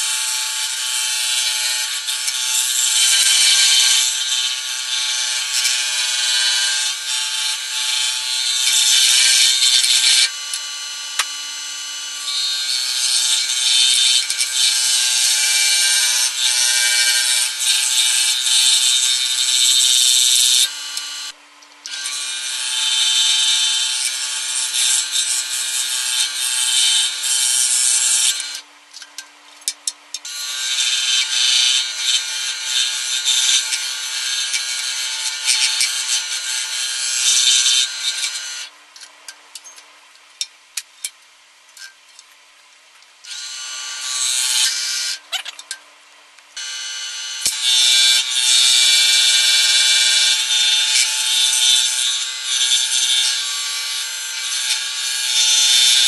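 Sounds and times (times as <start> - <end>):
saw blade cutting wood: 0.0 - 38.7, 43.3 - 45.8, 46.6 - 56.0.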